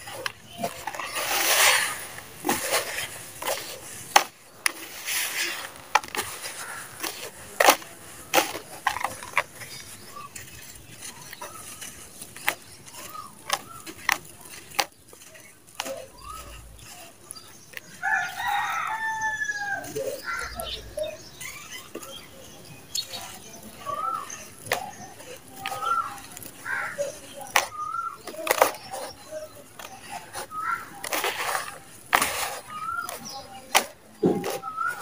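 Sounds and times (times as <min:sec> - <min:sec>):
hands crushing dry dirt: 0:00.0 - 0:35.0.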